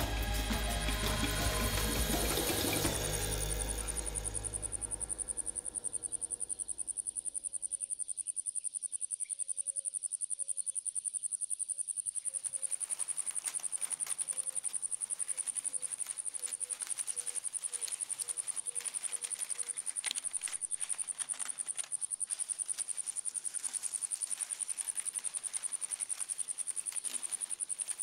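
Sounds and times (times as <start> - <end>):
insect trilling: 0.0 - 28.0.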